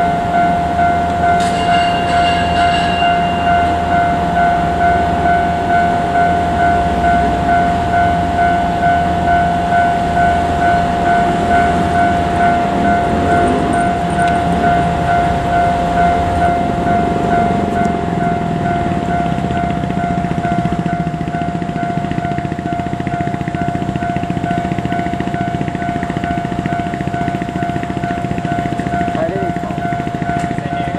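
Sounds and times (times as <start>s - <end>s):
level crossing warning bell: 0.0s - 30.9s.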